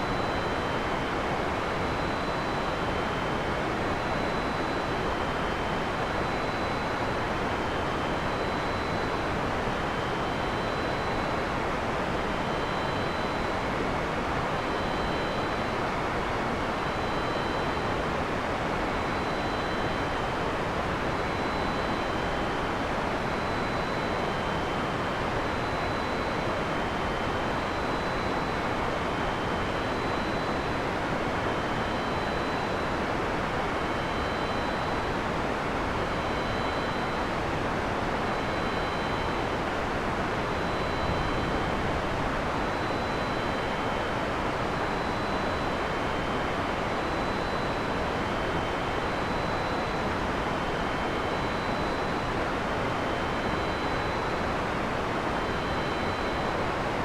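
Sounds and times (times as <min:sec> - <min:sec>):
faint high-pitched tones: 0:00.0 - 0:57.0.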